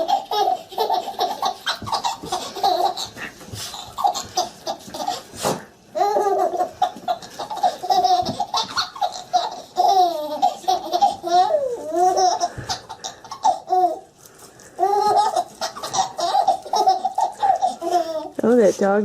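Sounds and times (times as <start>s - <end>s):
baby laughing: 0.0s - 14.1s, 14.8s - 18.4s.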